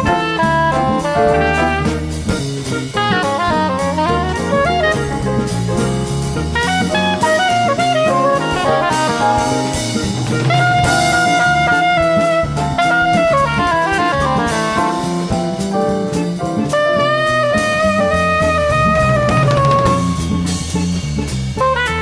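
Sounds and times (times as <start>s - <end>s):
drum kit beat: 0.0s - 22.0s
saxophone melody: 0.0s - 22.0s.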